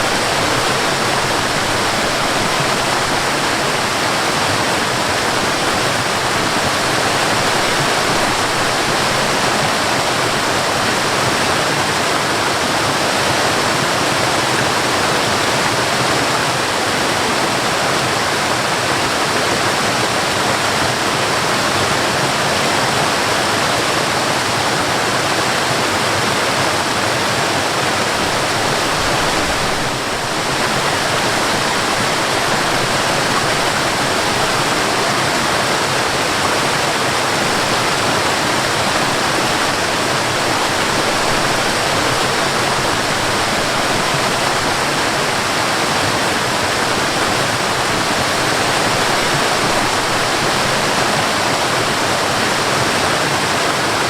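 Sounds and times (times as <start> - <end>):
waterfall water rushing: 0.0 - 54.0.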